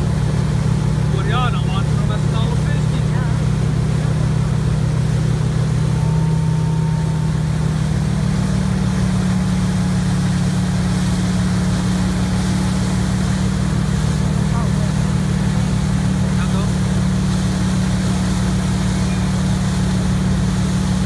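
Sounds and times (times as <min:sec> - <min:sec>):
boat engine droning: 0:00.0 - 0:21.0
churned water rushing: 0:00.0 - 0:21.0.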